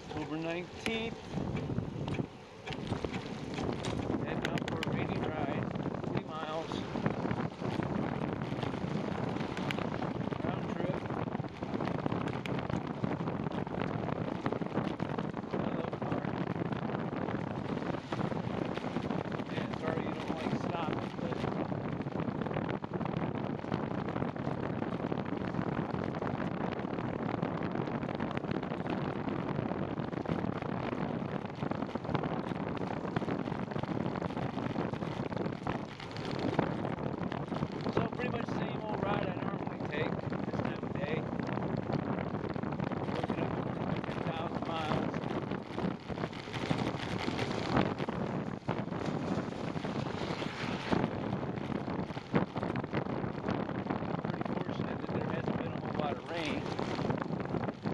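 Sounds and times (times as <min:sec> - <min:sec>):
bicycle road noise: 0:00.0 - 0:57.9
gusty thumps: 0:00.0 - 0:57.9
wind rush on microphone: 0:00.0 - 0:57.9.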